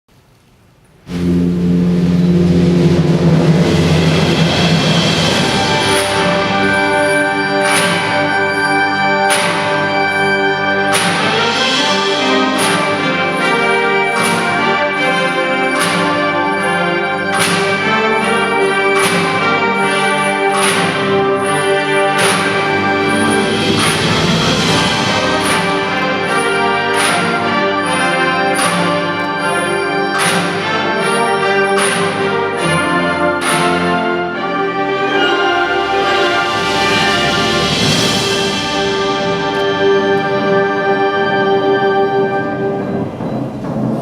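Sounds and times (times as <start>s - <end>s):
wind band playing chords: 1.0s - 44.0s
struck percussion accents: 1.1s - 44.0s.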